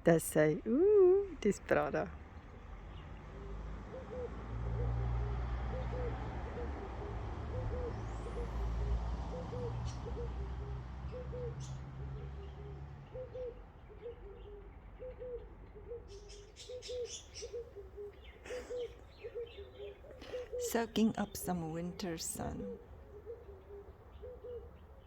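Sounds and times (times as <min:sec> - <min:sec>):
dove cooing: 0:03.3 - 0:25.0.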